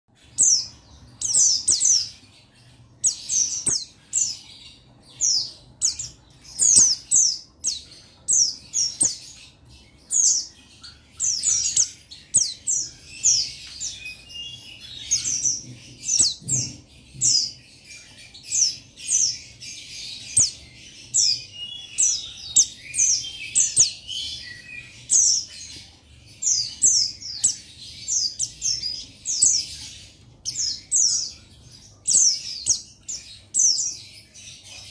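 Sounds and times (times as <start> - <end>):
bird twittering: 0.1 - 34.9
high-pitched bird chirps: 0.1 - 34.9.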